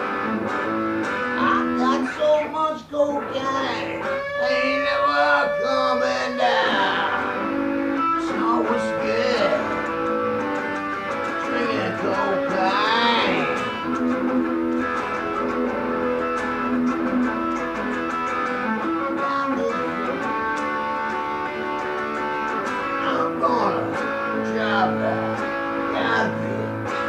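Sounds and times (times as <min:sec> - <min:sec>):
guitar music with held notes: 0:00.0 - 0:27.0.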